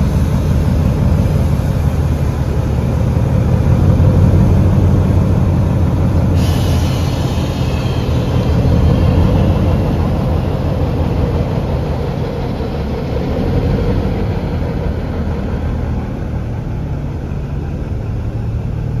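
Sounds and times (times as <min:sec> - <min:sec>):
diesel locomotive rumbling past: 0:00.0 - 0:19.0.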